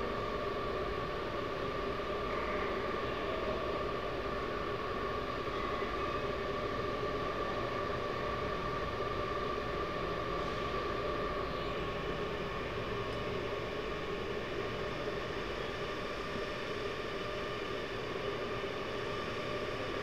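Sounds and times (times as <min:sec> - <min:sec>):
constant low noise: 0:00.0 - 0:20.0.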